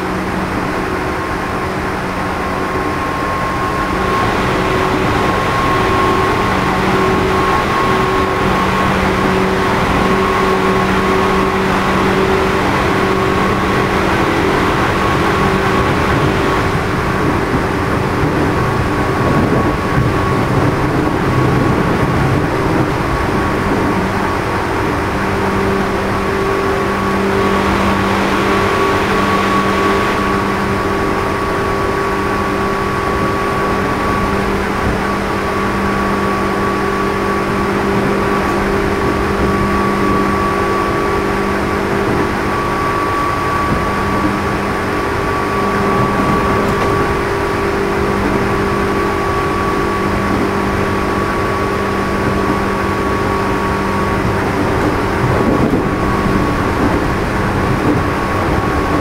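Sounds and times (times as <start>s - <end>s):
train motor hum and whine: 0.0s - 59.0s
wheel-on-rail rumble: 0.0s - 59.0s.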